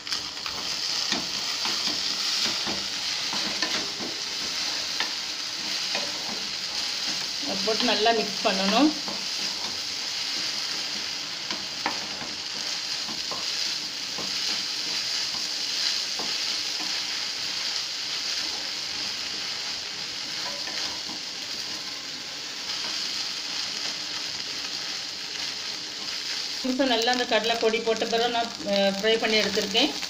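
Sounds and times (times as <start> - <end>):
food sizzling in oil: 0.0 - 30.0.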